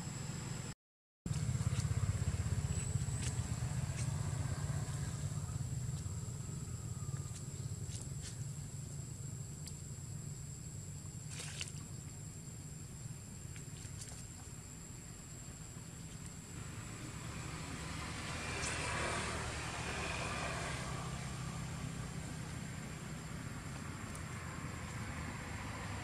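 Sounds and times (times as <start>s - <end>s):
low outdoor rumble: 1.3s - 26.0s.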